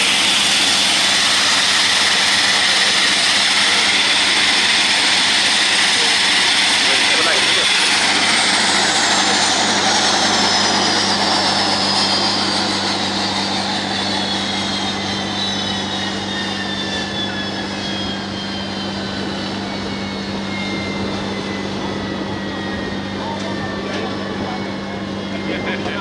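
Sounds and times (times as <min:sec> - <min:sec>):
turbine whine falling in pitch: 0:00.0 - 0:26.0.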